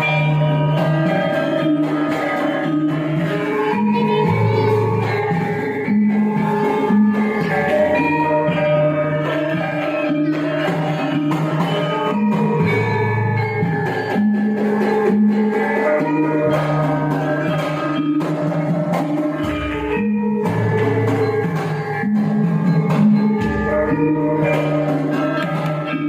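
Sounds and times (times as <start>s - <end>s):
gamelan ensemble playing: 0.0s - 26.0s.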